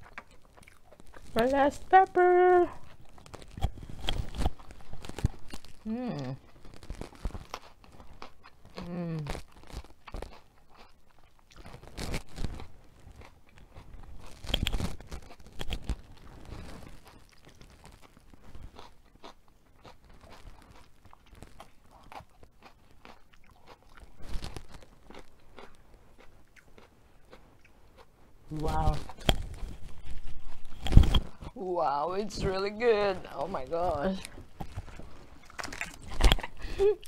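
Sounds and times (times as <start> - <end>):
person chewing: 0.0 - 1.6, 2.7 - 31.6, 34.0 - 37.0
crunchy bites: 2.8 - 31.6, 34.2 - 37.0.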